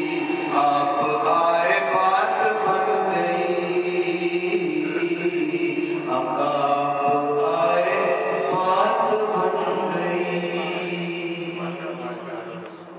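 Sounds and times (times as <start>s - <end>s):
man chanting devotional poem: 0.0s - 12.9s.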